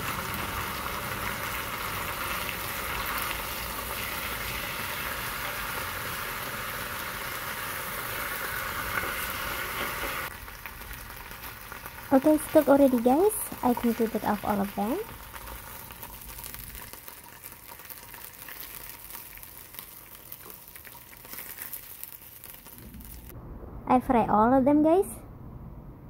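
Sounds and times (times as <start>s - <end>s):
meat sizzling in pan: 0.0s - 23.3s.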